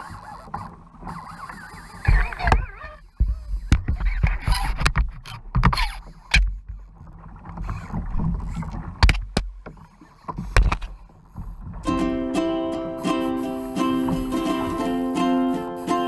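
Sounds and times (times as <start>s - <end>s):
water sloshing against kayak hull: 0.0s - 16.0s.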